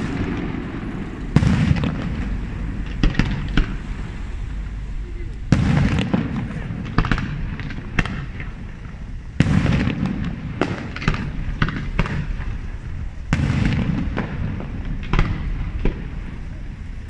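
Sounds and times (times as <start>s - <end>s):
firework shells bursting: 0.0s - 17.0s
heavy firework booms: 0.0s - 17.0s
low rolling rumble: 0.0s - 17.0s.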